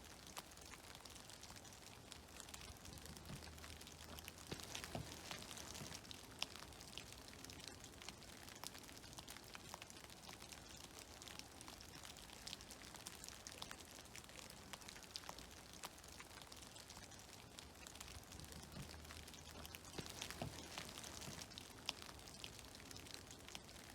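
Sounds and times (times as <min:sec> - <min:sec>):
faint steady hiss: 0:00.0 - 0:23.9
meltwater dripping: 0:00.0 - 0:23.9.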